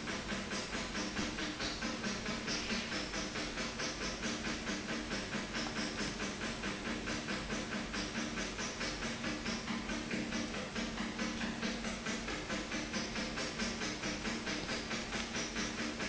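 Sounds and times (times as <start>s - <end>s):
low hum of water flow: 0.0s - 16.0s
shower hissing: 0.0s - 16.0s.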